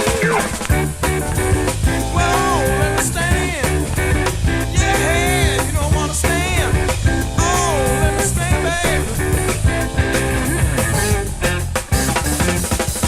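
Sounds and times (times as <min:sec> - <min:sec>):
rock music with drum beat: 0:00.0 - 0:13.0.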